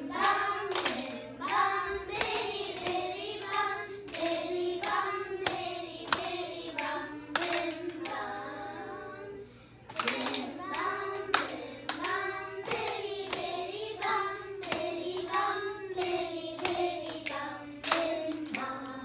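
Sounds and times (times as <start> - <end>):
children singing: 0.0 - 19.0
sharp hand claps: 0.2 - 8.2, 9.9 - 19.0.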